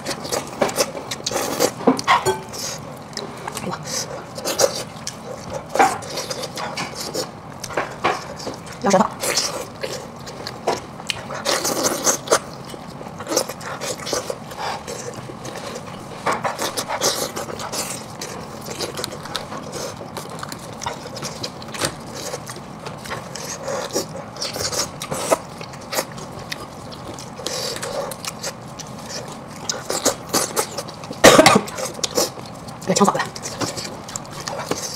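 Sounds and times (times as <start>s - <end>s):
wet chewing smacks and clicks: 0.0s - 34.9s.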